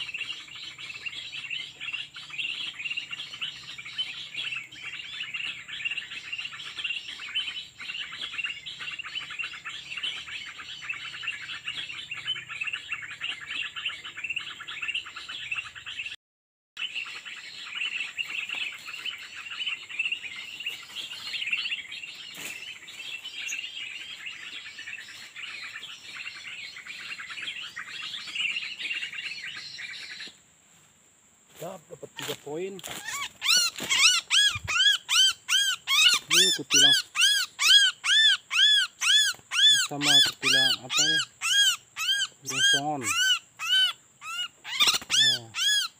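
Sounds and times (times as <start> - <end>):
small birds chirping: 0.0 - 16.2, 16.8 - 45.9.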